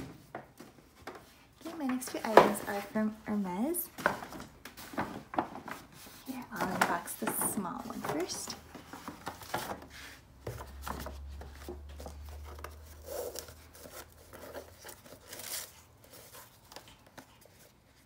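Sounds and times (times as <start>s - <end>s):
paper and card rustling: 0.9s - 18.0s.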